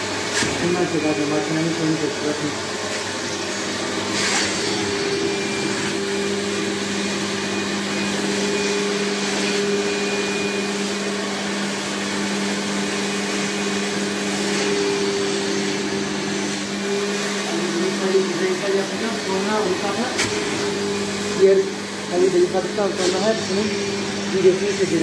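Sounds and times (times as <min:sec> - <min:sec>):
suction motor humming: 0:00.0 - 0:25.0.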